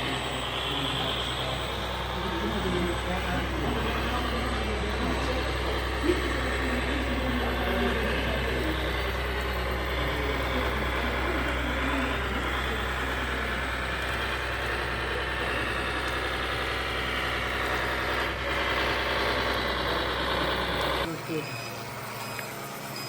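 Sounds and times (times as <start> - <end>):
mechanical whirring: 0.0 - 23.0
model truck engines running: 0.0 - 23.0.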